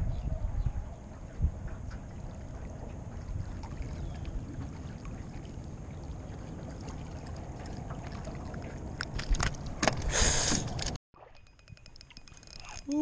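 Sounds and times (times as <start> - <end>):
wind rumbling on microphone: 0.0 - 13.0
water lapping at boat: 0.4 - 13.0.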